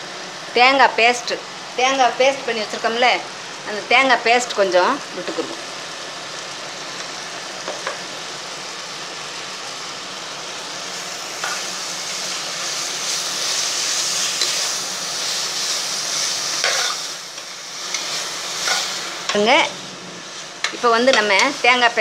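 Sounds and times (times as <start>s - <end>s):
masala sizzling in a pan: 0.0s - 22.0s.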